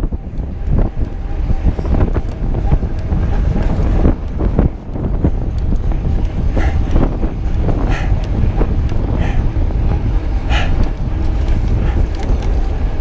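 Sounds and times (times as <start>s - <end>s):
rattles and scrapes: 0.0s - 13.0s
road noise rumble: 0.0s - 13.0s
wind buffeting microphone: 0.0s - 13.0s.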